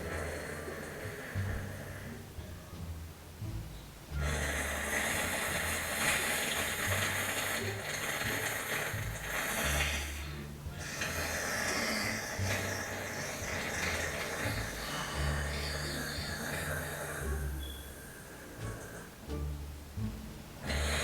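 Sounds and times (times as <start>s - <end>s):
person fake snoring: 0.0s - 2.2s, 4.2s - 19.2s, 20.6s - 21.0s.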